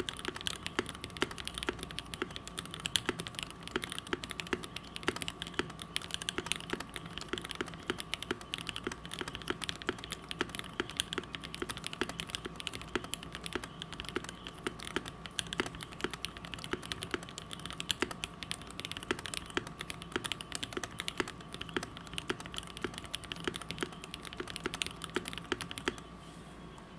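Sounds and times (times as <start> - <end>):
fast mechanical keyboard typing: 0.0 - 26.1.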